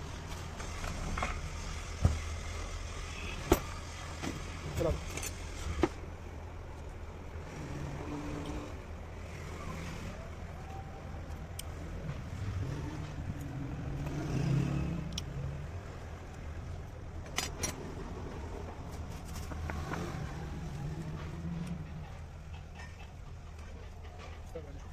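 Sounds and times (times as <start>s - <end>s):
low engine rumble: 0.0s - 24.9s.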